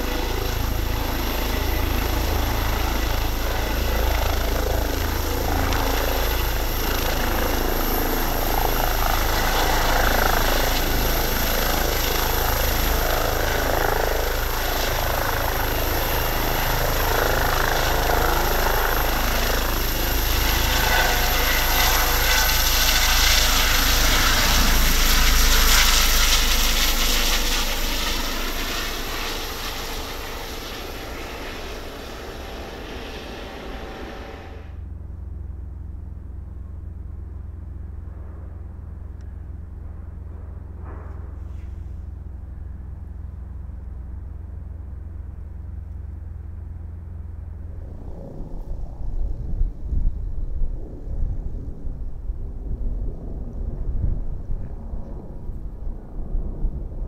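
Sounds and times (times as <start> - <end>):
helicopter rotor rumble: 0.0 - 57.0
helicopter turbine whine: 0.0 - 57.0.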